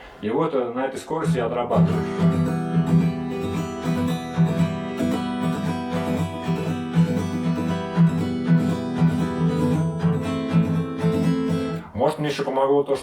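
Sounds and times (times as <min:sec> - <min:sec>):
acoustic guitar strumming: 0:01.1 - 0:12.4.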